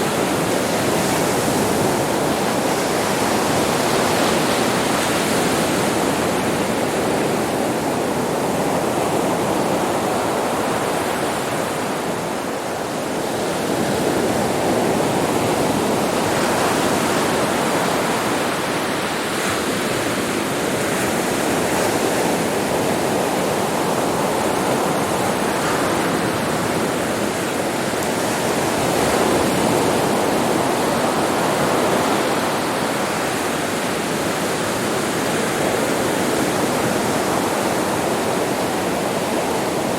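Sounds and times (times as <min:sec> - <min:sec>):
sea surf washing onto beach: 0:00.0 - 0:39.9.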